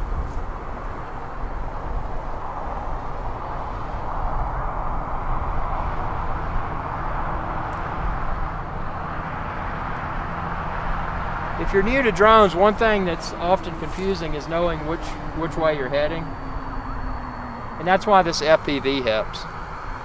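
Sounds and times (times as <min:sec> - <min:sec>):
wind rumbling on microphone: 0:00.0 - 0:20.0
steady rushing sound: 0:00.6 - 0:20.0.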